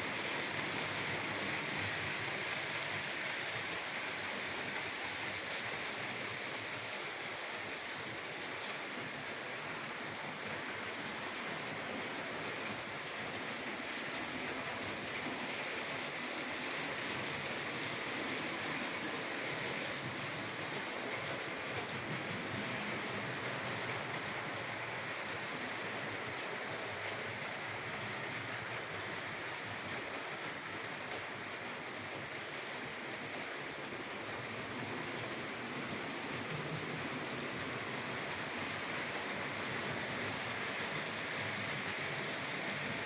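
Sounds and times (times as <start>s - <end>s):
model trains whirring: 0.0s - 43.0s.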